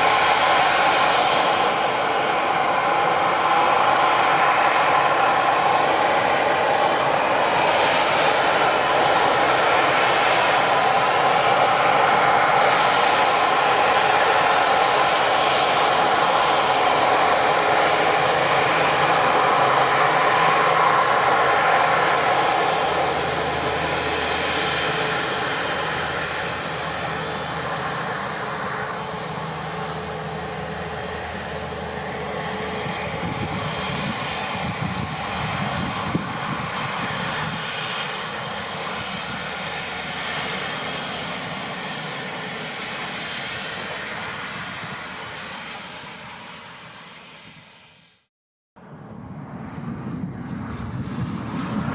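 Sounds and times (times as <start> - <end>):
jet engine noise: 0.0 - 51.9.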